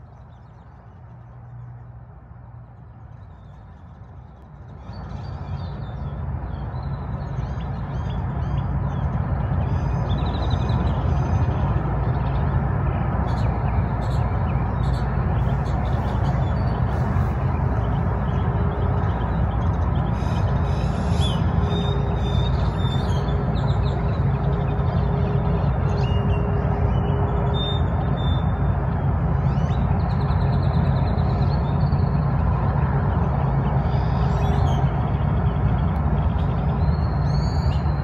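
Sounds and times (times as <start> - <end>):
low rumble of vehicles: 0.0 - 38.0.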